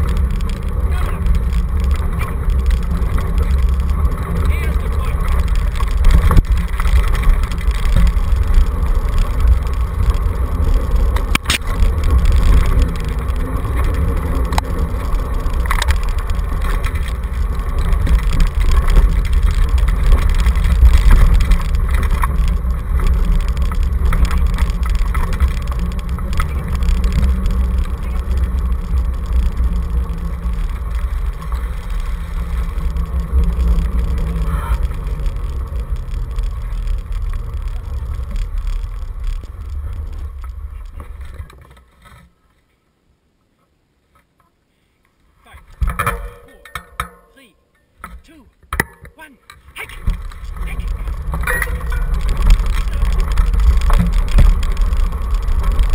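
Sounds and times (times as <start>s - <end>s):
wheels knocking on bumps: 0.0s - 42.2s, 45.6s - 47.4s, 48.0s - 55.9s
kick scooter rattling over dirt: 0.0s - 42.5s, 45.4s - 55.9s.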